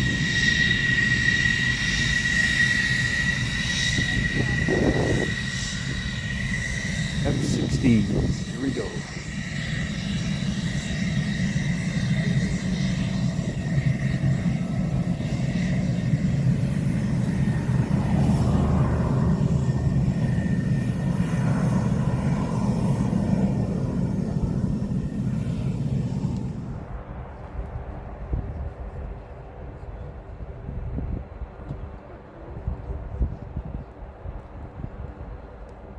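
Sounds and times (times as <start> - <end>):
jet engine rumble and whine: 0.0 - 35.9.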